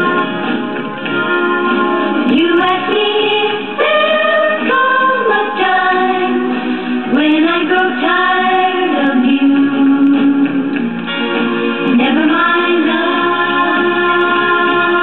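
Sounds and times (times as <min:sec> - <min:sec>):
song on record player: 0:00.0 - 0:15.0.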